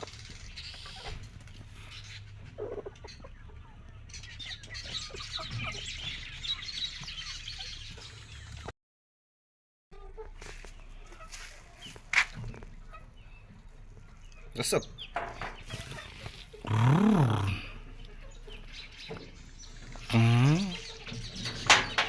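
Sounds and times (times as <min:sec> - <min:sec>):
chickens clucking: 0:00.0 - 0:08.7, 0:10.0 - 0:22.0.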